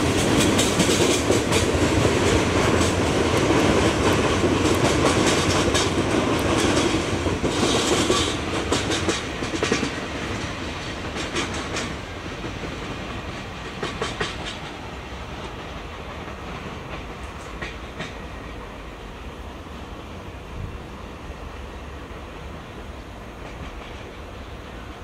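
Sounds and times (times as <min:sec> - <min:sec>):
train wheels clickety-clack: 0:00.0 - 0:19.1, 0:22.1 - 0:25.0
low train rumble: 0:00.0 - 0:25.0.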